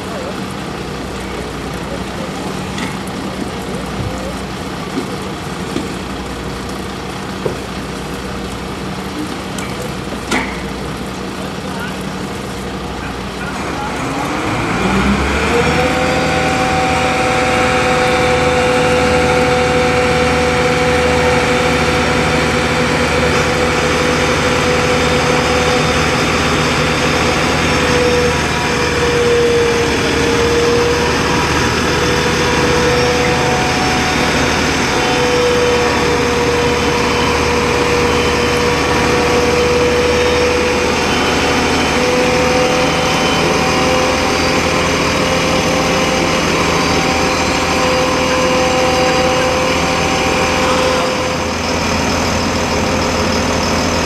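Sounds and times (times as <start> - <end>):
hydraulic whine: 0.0 - 54.0
truck engine running at raised revs: 0.0 - 54.0.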